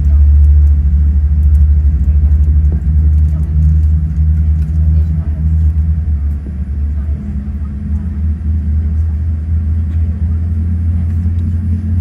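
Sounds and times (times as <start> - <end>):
jet engine rumble: 0.0 - 12.0.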